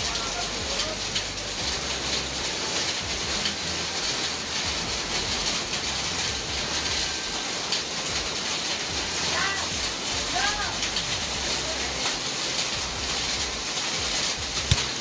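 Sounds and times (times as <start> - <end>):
hail and rain on sheet roof: 0.0 - 15.0.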